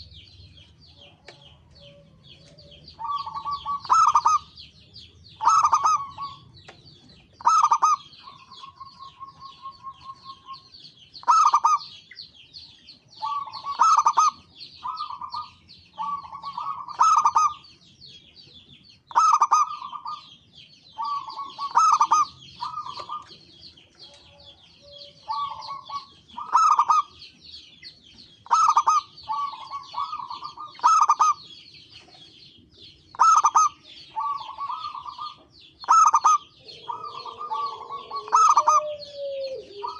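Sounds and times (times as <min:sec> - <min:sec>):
doves cooing: 0:01.0 - 0:12.0, 0:13.1 - 0:17.6, 0:19.1 - 0:27.2, 0:28.4 - 0:39.9.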